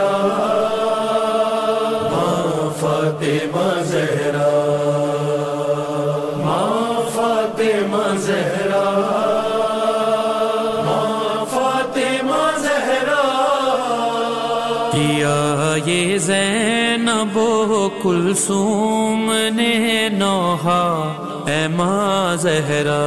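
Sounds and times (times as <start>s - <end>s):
hummed chorus drone: 0.0s - 18.9s.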